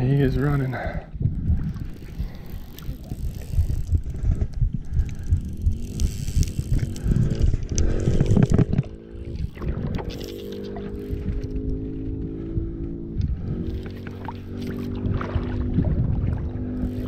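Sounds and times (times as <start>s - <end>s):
wind buffeting microphone: 0.0s - 17.0s
droning tone rising in pitch: 1.4s - 17.0s.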